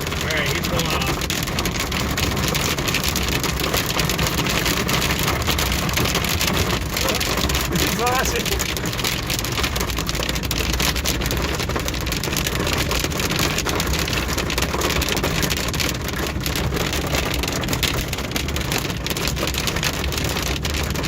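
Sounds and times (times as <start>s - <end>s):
car engine: 0.0s - 21.0s
hail and rain pelting car roof: 0.0s - 21.0s
road noise: 0.0s - 21.0s.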